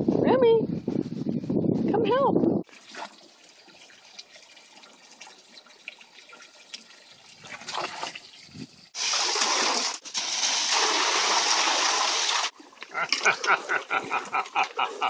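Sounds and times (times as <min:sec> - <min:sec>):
hose water trickling: 0:02.6 - 0:15.0.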